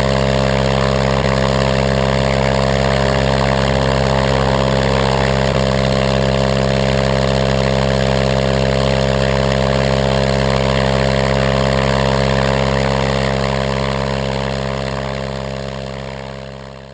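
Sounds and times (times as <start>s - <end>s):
aircraft engine running steadily: 0.0s - 16.9s.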